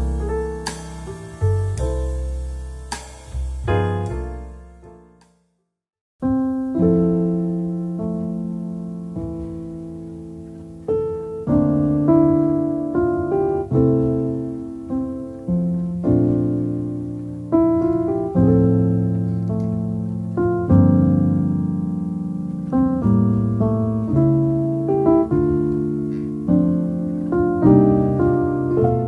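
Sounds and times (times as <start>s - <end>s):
gentle solo piano: 0.0s - 5.3s, 6.2s - 29.0s.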